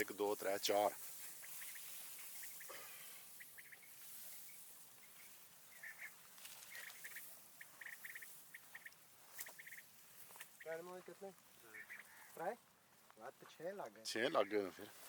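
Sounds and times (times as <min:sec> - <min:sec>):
quail calling: 0:00.0 - 0:12.9.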